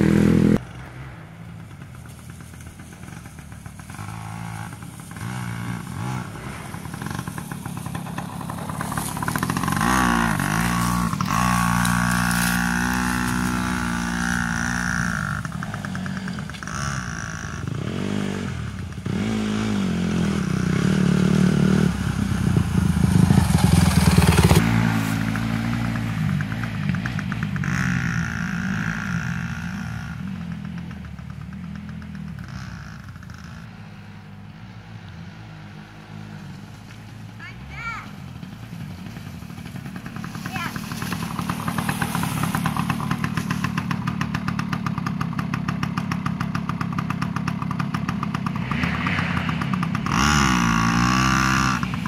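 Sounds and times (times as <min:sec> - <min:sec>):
dirt bike engines revving past: 0:00.0 - 0:52.0.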